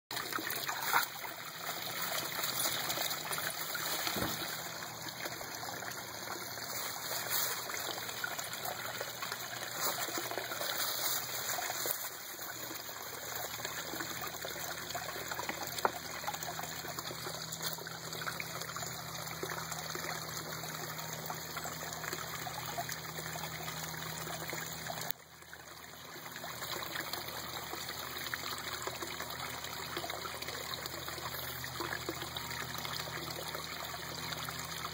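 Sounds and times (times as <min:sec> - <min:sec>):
water trickling in a pond: 0:00.1 - 0:34.9.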